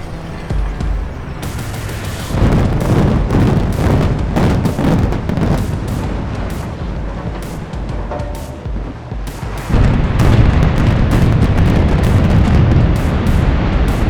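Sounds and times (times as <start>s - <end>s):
deep rumbling collapse: 0.1s - 14.0s
explosive charges cracking: 1.4s - 14.0s.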